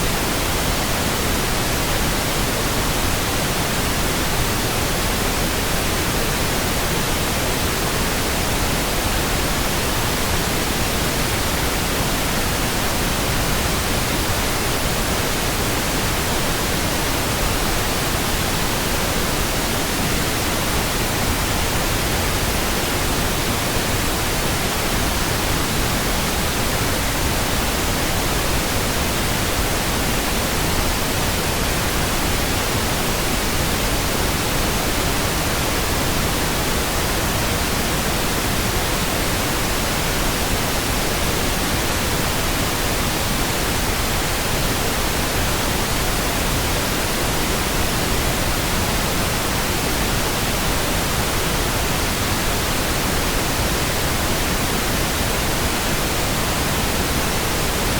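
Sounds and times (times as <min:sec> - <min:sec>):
steady pink noise hiss: 0:00.0 - 0:57.9.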